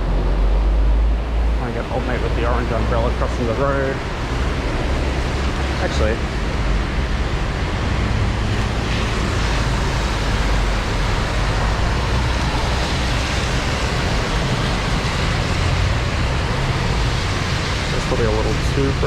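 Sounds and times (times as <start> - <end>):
heavy rain: 0.0 - 19.0
road traffic on wet streets: 0.0 - 19.0.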